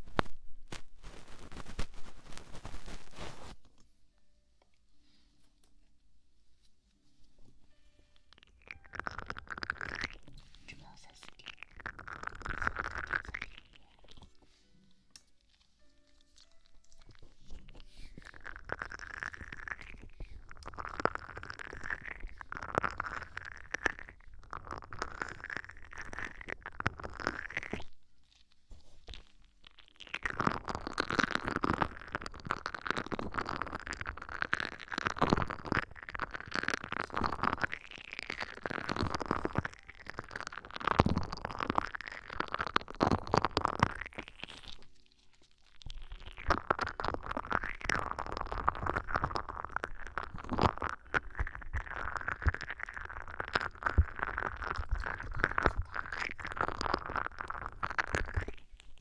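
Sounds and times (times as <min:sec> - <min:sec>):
scratching on microphone: 0:00.0 - 0:03.7, 0:08.3 - 0:14.5, 0:16.3 - 0:27.9, 0:28.6 - 0:59.0.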